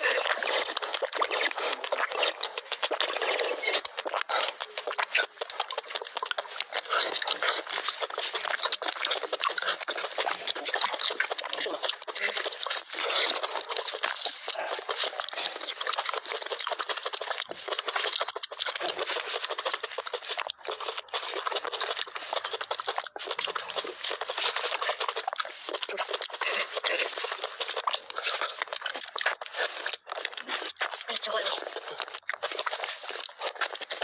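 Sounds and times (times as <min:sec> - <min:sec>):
wet mouth eating sounds: 0:00.0 - 0:34.0.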